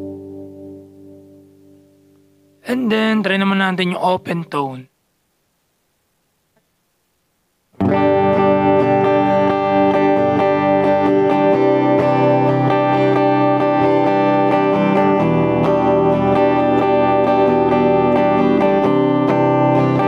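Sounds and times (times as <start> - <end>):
clean electric guitar: 0.0 - 4.6, 7.8 - 20.0.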